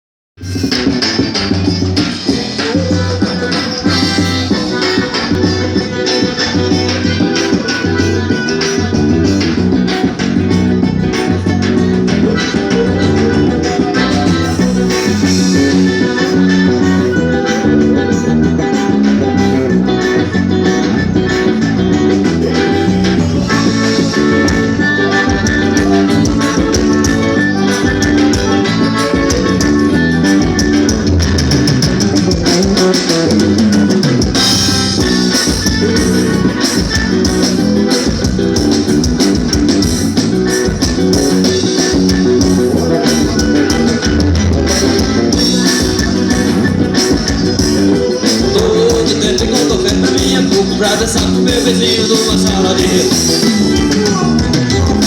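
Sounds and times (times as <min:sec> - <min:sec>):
accordion melody: 0:00.4 - 0:55.0
band playing with accordion melody: 0:00.4 - 0:55.0
bass line: 0:00.4 - 0:55.0
drums: 0:00.4 - 0:55.0.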